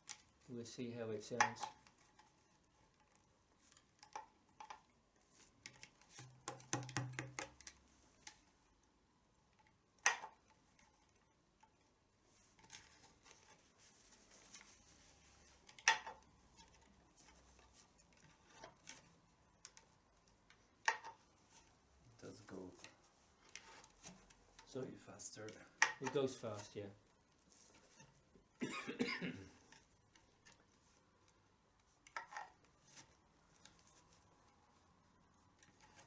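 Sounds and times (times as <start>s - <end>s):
drum straps clicking and rubbing: 1.2s - 28.6s, 29.3s - 36.0s.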